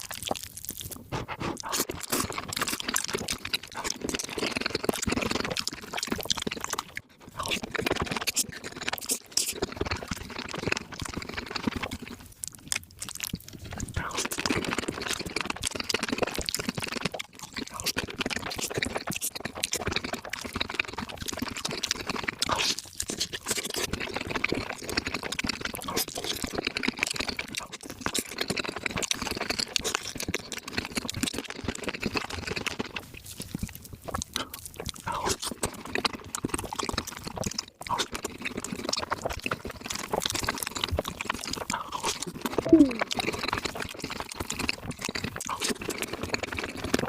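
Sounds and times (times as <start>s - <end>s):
wet chewing and slurping: 0.0s - 47.0s.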